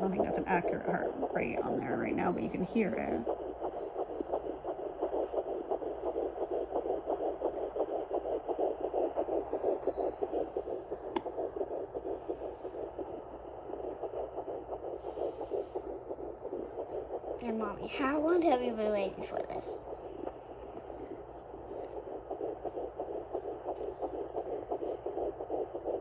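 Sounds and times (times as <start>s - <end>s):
fetal heartbeat on doppler: 0.0s - 26.0s
steady low hum: 0.0s - 26.0s.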